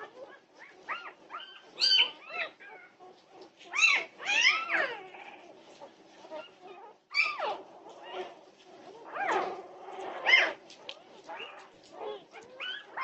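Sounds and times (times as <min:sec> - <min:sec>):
puppies squealing and crying: 0:00.0 - 0:13.0.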